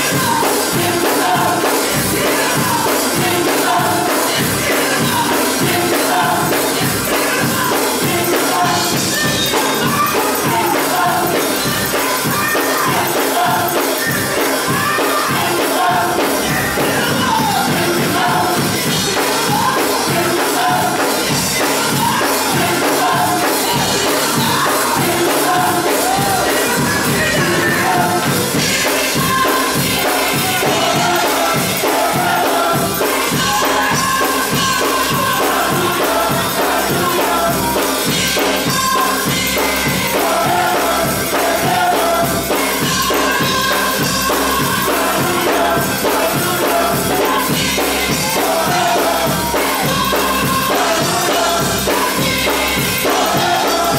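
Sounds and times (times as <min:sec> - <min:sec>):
band playing a driving beat: 0:00.0 - 0:53.9
gospel choir singing: 0:00.0 - 0:53.9.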